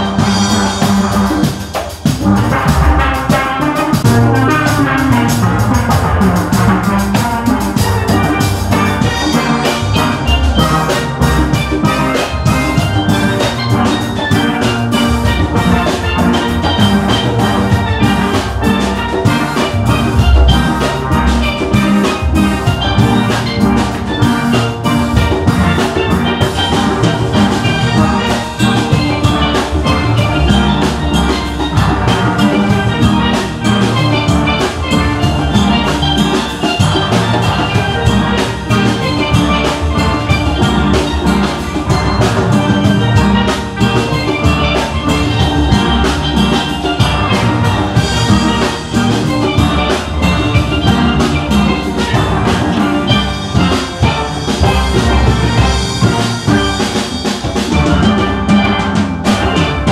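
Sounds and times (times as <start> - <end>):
steel band playing: 0.0 - 59.9.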